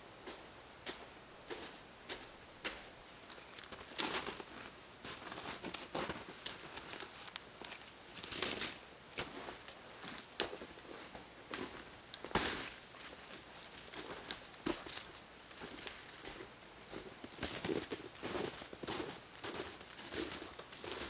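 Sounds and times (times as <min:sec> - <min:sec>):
footsteps crunching through snow: 0:00.2 - 0:21.0
twigs crackling: 0:03.1 - 0:10.7, 0:11.5 - 0:21.0.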